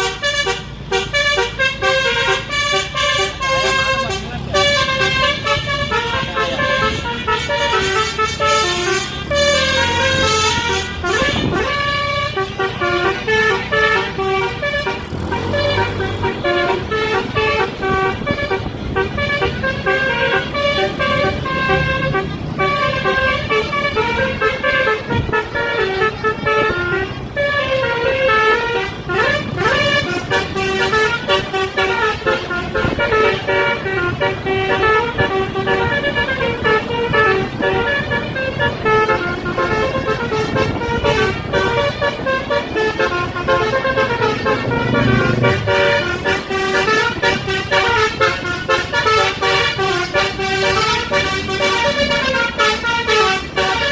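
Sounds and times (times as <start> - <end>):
multi-tone air horn tune: 0.0 - 53.9.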